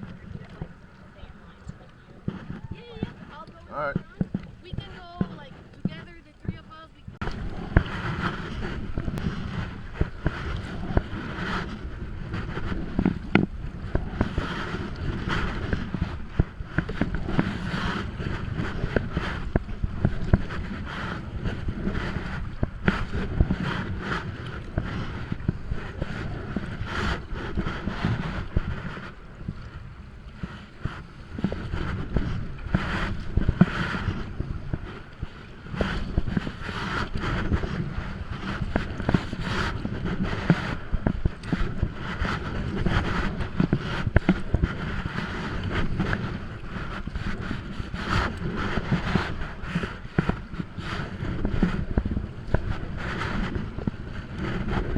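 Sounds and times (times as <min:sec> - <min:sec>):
paddle stroke splashes: 0:00.0 - 0:54.9
water sloshing and splashing: 0:00.0 - 0:54.9
wind buffeting microphone: 0:00.0 - 0:54.9.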